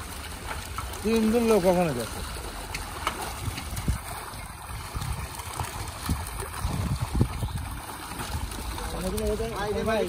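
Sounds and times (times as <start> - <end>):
fish splashing in water: 0.0 - 10.0.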